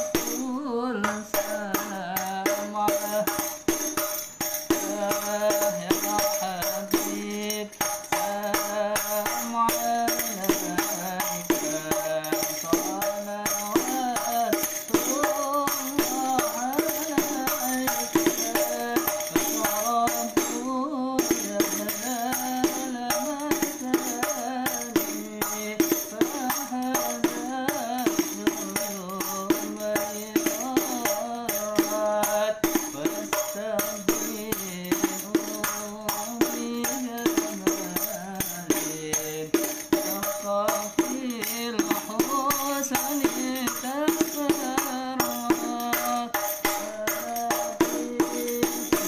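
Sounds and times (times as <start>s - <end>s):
frame drum rhythm: 0.0s - 49.0s
man singing: 0.0s - 49.0s.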